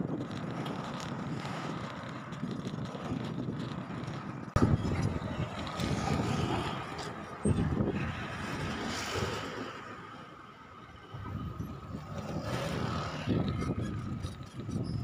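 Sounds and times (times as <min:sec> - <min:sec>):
road travel noise: 0:00.0 - 0:15.0
wind buffeting microphone: 0:00.0 - 0:15.0.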